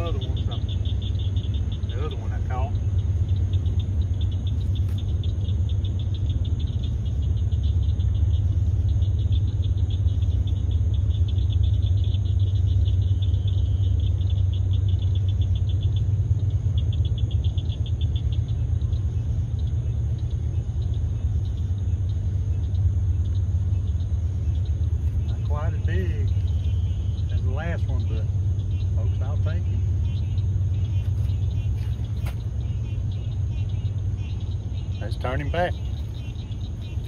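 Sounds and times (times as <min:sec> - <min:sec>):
night insects chirping: 0:00.0 - 0:37.0
steady low rumble: 0:00.0 - 0:37.0.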